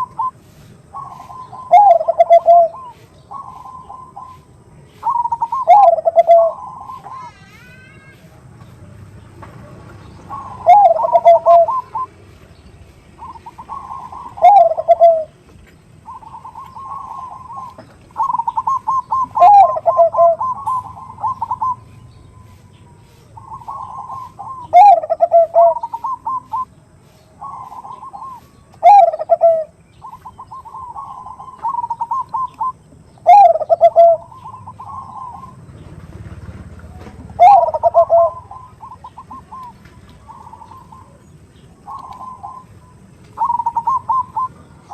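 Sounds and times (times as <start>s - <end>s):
dove cooing: 0.0s - 8.9s, 10.0s - 12.2s, 12.9s - 44.9s.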